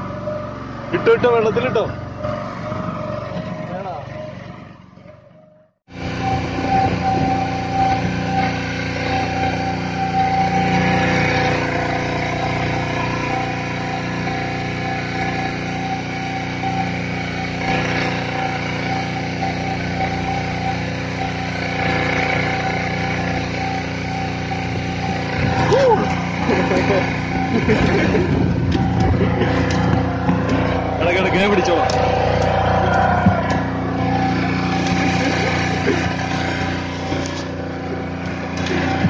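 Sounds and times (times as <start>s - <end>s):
motorboat engine running: 0.0s - 39.0s.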